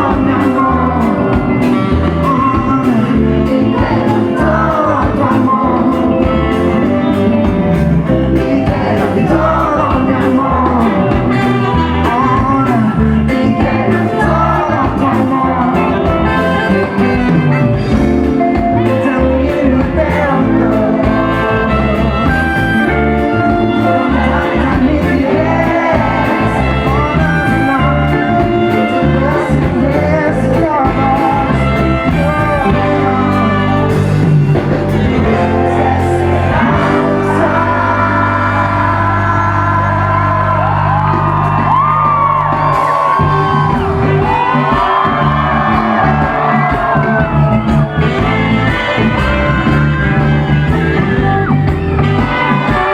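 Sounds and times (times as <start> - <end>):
lead singer: 0.0 - 52.9
live reggae band playing: 0.0 - 52.9.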